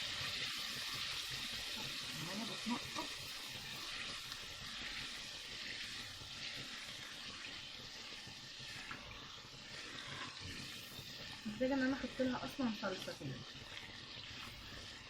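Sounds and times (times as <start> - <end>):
sauce sizzling in a pan: 0.0 - 15.0.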